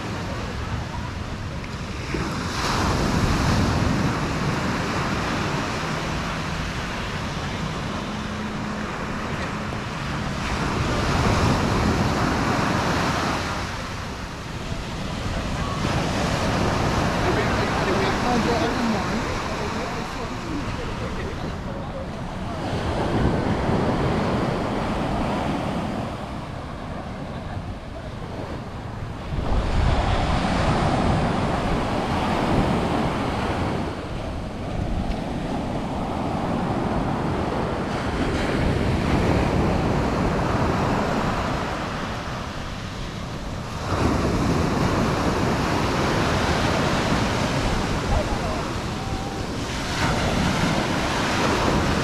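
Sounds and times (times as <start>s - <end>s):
sea waves breaking on beach: 0.0s - 52.0s
wind buffeting microphone: 0.0s - 52.0s.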